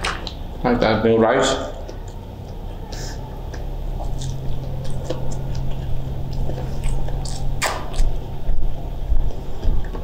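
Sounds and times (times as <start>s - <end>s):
person chewing food: 1.7s - 10.0s.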